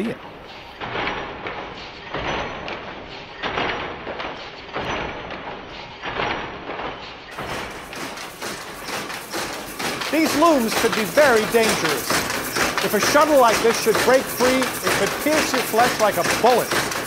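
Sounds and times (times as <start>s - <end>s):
loom shuttle swishing: 0.0s - 17.0s
power loom clattering: 0.0s - 17.0s.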